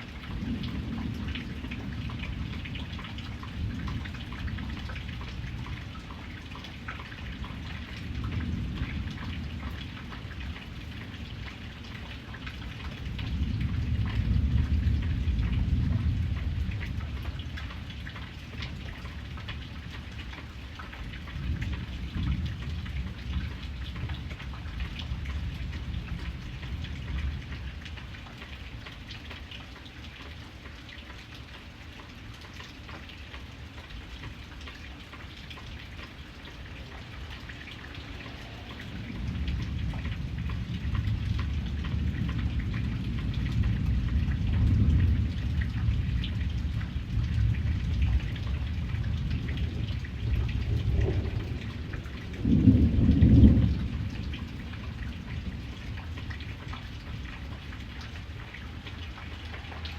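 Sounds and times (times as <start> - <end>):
low thunder rumbles: 0.0 - 29.4, 35.4 - 59.9
raindrops ticking: 0.0 - 59.9
steady rain: 0.0 - 59.9.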